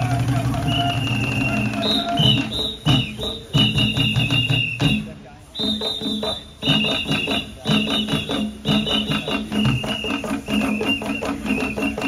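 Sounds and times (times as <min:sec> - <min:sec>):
hand drums playing fast rhythm: 0:00.0 - 0:12.0
high held tones: 0:00.0 - 0:12.0.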